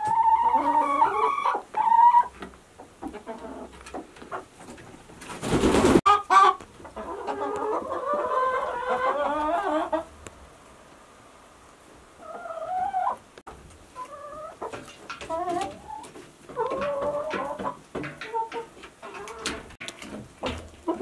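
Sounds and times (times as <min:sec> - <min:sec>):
chickens clucking: 0:00.0 - 0:10.4, 0:11.7 - 0:21.0.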